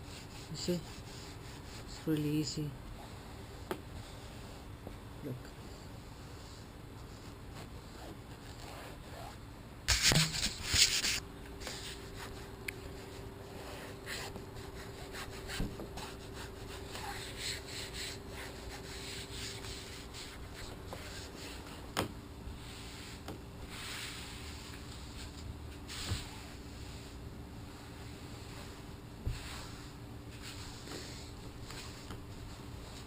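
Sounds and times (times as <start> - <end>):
hands rubbing fabric: 0.0 - 2.2, 6.2 - 33.0.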